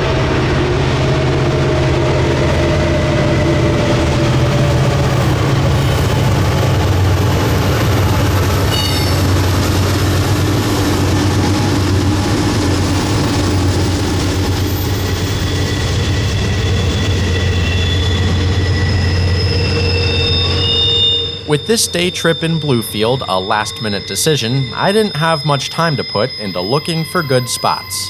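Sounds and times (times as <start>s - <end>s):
freight train rumbling past: 0.0s - 28.0s
high wheel squeals: 0.0s - 28.0s
low drone: 0.0s - 28.0s.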